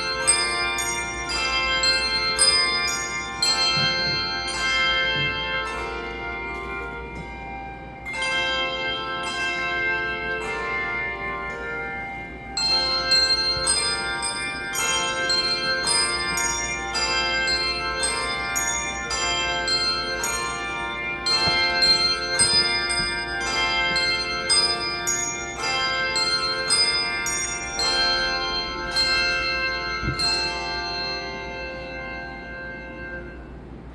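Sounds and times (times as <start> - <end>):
handbell choir playing: 0.0 - 33.9.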